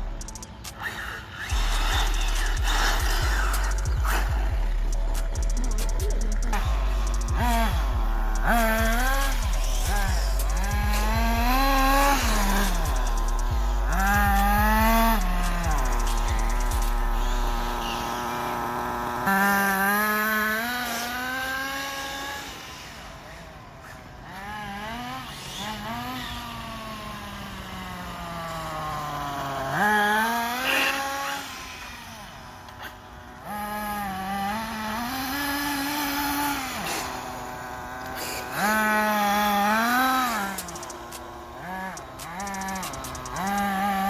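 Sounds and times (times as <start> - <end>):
rc car motors revving: 0.0 - 44.0.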